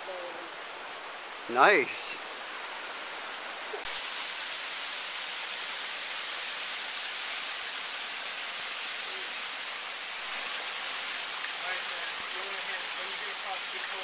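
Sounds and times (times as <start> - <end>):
waterfall rushing over boulders: 0.0 - 14.0.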